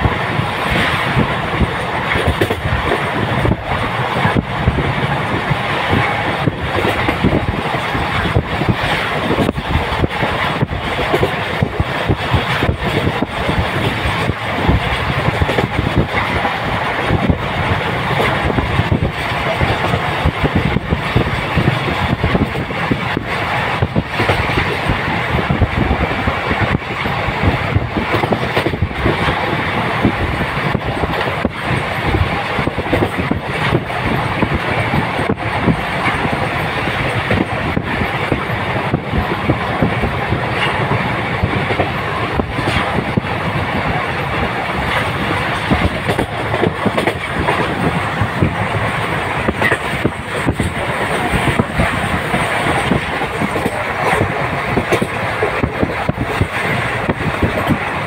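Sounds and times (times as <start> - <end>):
rail joints clacking: 0.0 - 58.0
train wheels rumbling on rails: 0.0 - 58.0.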